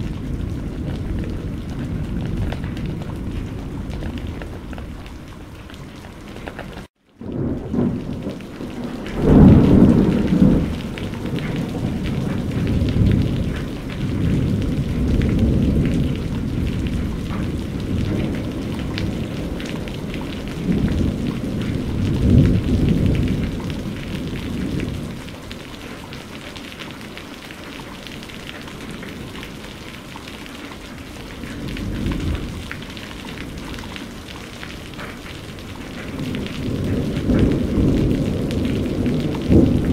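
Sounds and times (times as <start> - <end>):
low thunder rumbling: 0.0 - 25.4, 30.8 - 39.9
steady rain: 0.0 - 39.9.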